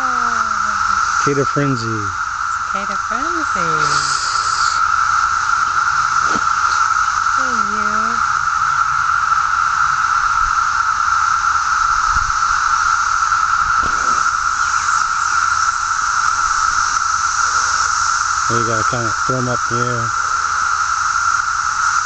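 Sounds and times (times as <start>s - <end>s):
cicadas buzzing: 0.0s - 22.0s.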